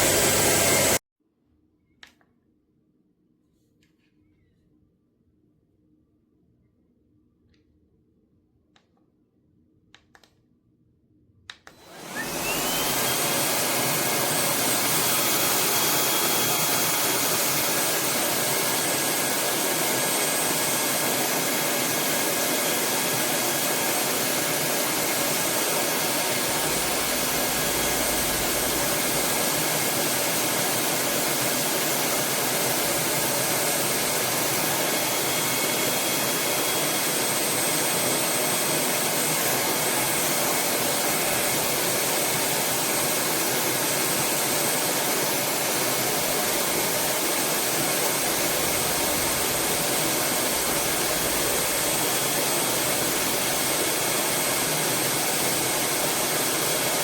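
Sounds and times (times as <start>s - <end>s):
vacuum motor whine: 0.0s - 1.0s, 11.6s - 57.0s.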